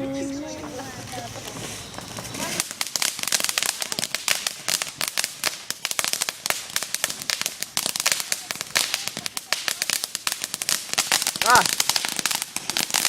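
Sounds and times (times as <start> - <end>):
firecrackers cracking: 0.0 - 13.0.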